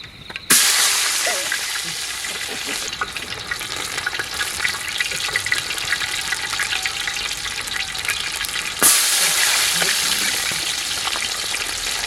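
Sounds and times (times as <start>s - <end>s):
food sizzling in hot oil: 0.5s - 12.0s.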